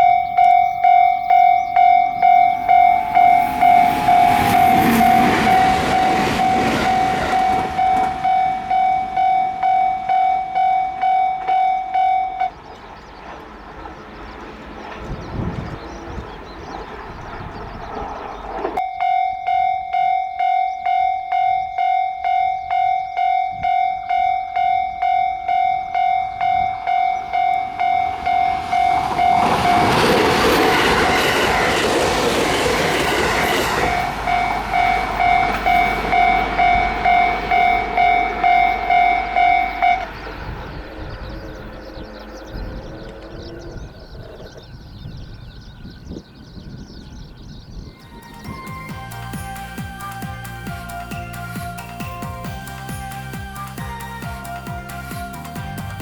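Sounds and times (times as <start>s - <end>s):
level-crossing alarm ringing: 0.0s - 13.1s, 18.8s - 43.7s, 48.0s - 56.0s
train passing: 0.0s - 44.9s, 47.8s - 56.0s.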